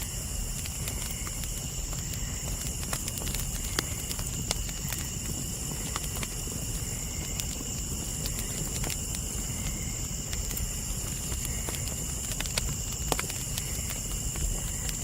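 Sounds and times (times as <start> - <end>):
campfire crackling and popping: 0.0 - 15.0
insects trilling: 0.0 - 15.0.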